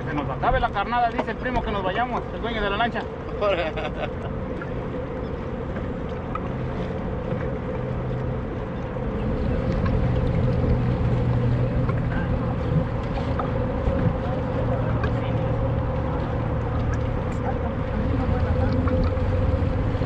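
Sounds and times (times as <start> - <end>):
choppy water: 0.0 - 20.0
motorboat engine drone: 0.0 - 20.0
wind: 0.0 - 20.0.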